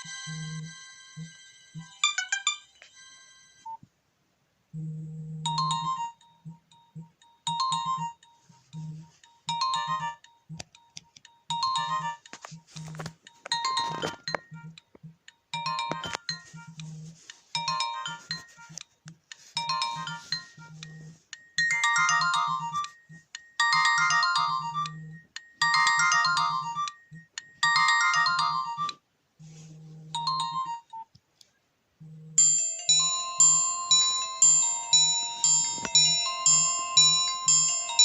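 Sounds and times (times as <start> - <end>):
chime-like ringtone: 0.0 - 3.8, 5.4 - 31.1, 32.4 - 38.0
electronic ringtone melody: 0.0 - 3.8, 4.8 - 31.1, 32.0 - 38.0.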